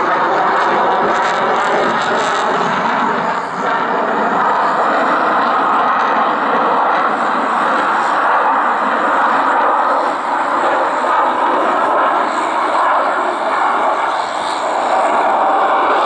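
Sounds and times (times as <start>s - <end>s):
fighter jet engines roaring: 0.0s - 16.0s.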